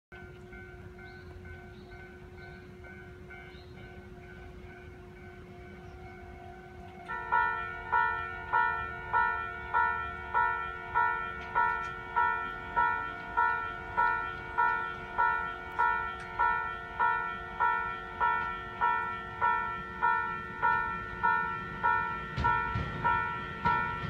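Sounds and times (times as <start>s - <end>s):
level crossing warning bell: 0.1s - 24.0s.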